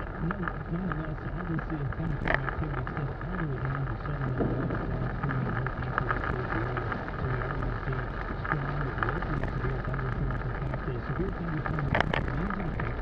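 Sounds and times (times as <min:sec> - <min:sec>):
car engine and tyre noise: 0:00.0 - 0:13.0
rain hitting a windshield: 0:00.0 - 0:13.0.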